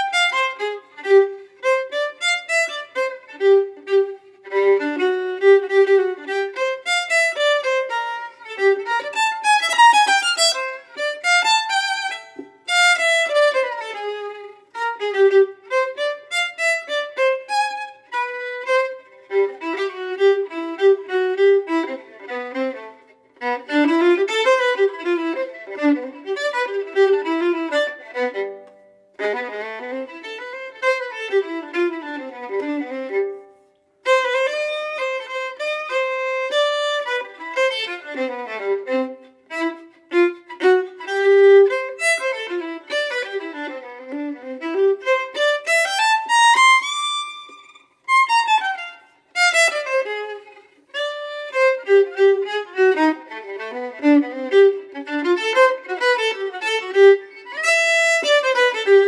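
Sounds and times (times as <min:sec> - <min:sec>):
solo violin playing: 0:00.0 - 0:59.0.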